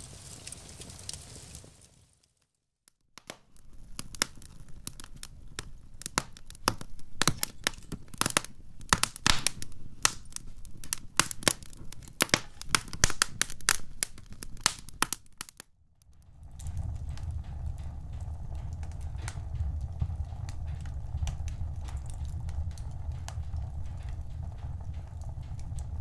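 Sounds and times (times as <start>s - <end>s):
low rumble of flames: 0.0s - 2.2s, 3.2s - 26.0s
wood fire crackling: 0.0s - 26.0s.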